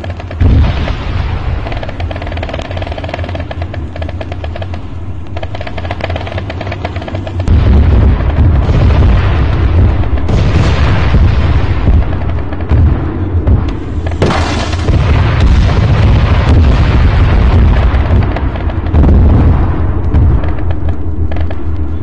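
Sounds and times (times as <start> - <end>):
low explosion rumble: 0.0 - 22.0
sharp explosion blasts: 0.0 - 22.0.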